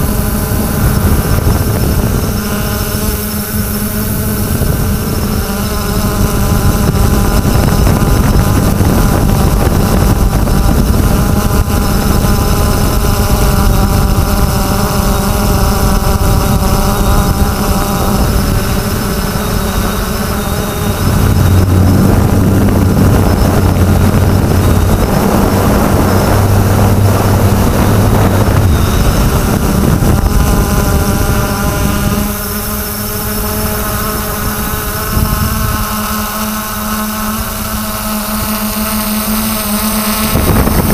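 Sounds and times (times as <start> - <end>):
drone propellers whining: 0.0 - 40.9
wind rushing on microphone: 0.0 - 40.9.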